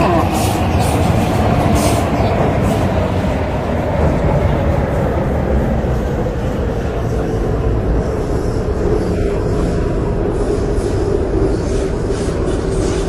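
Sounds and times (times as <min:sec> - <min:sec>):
train rumbling and motor hum: 0:00.0 - 0:13.0.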